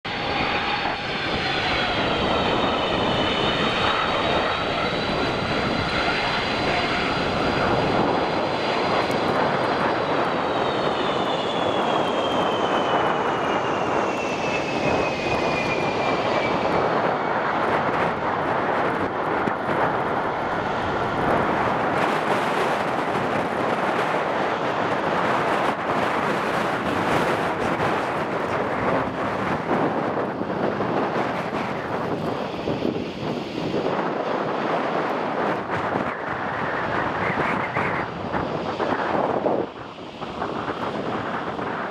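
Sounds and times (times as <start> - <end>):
jet engines whining: 0.0 - 41.9.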